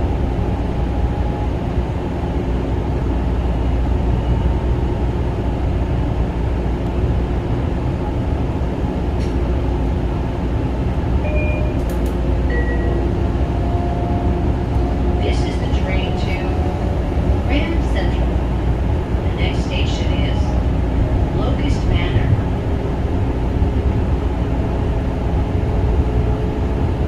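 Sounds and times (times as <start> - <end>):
train wheels and motors rumbling: 0.0 - 27.0.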